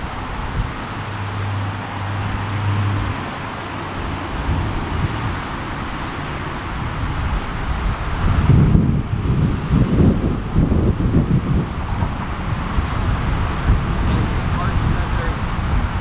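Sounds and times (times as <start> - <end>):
low steady engine hum: 0.0 - 16.0
road traffic: 0.0 - 16.0
wind rumble on microphone: 0.0 - 16.0.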